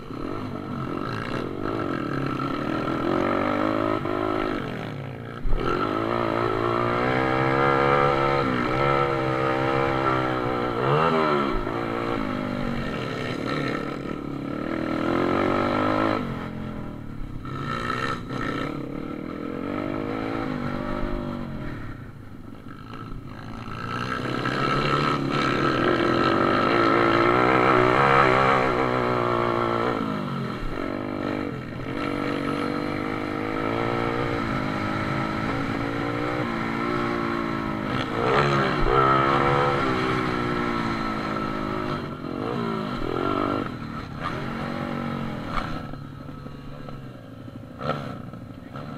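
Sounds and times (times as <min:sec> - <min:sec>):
pit bike engines racing: 0:00.0 - 0:48.9.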